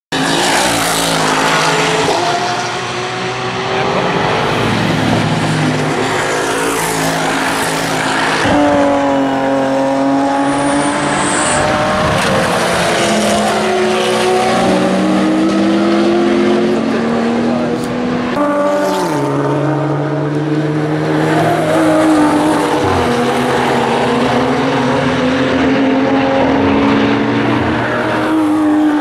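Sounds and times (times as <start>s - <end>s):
race car engines passing: 0.1s - 29.0s.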